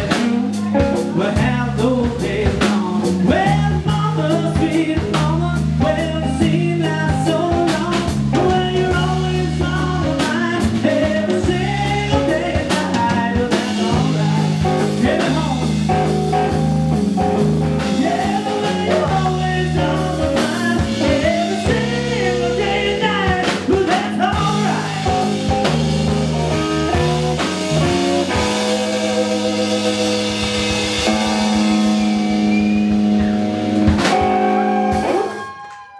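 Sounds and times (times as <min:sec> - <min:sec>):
bass guitar: 0:00.0 - 0:35.9
drum kit: 0:00.0 - 0:35.9
electric guitar lead: 0:00.0 - 0:35.9.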